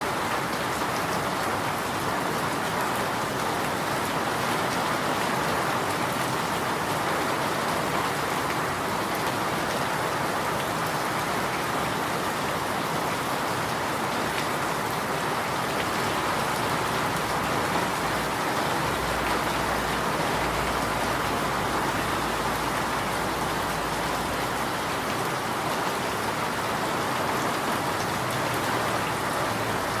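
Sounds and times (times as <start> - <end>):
rain on leaves: 0.0 - 30.0.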